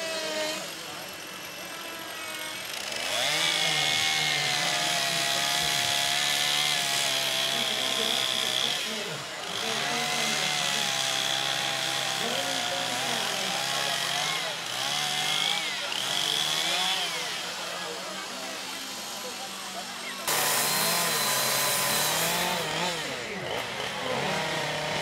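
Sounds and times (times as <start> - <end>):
power carving tool whining: 0.0 - 25.0.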